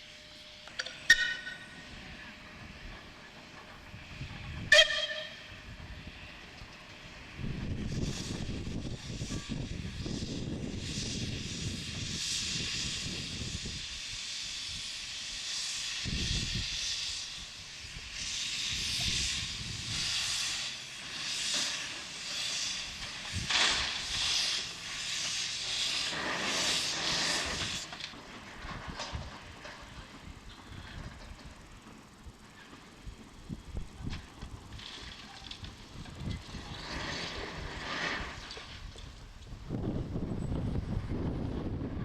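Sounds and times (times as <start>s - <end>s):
hissing exhaust puffs of steam: 0.0s - 42.0s
steam hiss: 0.0s - 42.0s
steam shovel machinery rumble: 0.0s - 42.0s.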